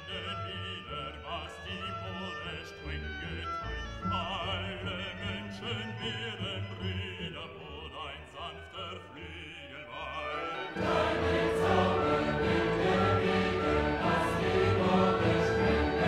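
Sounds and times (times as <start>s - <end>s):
opera-style singing with accompaniment: 0.0s - 16.0s.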